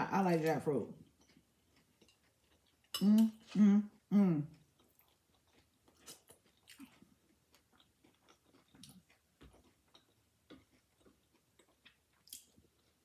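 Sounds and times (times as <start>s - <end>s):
chewing crunchy taco: 1.0s - 13.0s.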